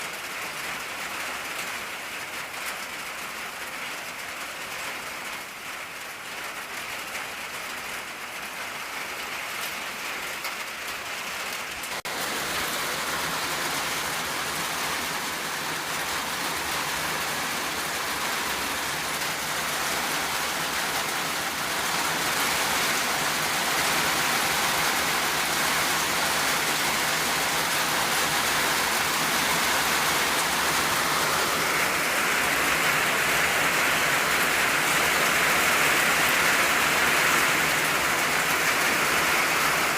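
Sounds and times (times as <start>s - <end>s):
rain drumming on a tin roof: 0.0s - 39.9s.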